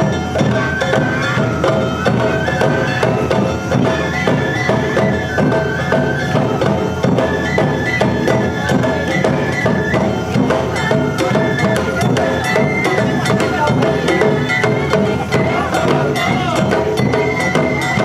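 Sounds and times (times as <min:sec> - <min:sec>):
drums beating: 0:00.0 - 0:18.0
high flutes playing melody: 0:00.0 - 0:18.0.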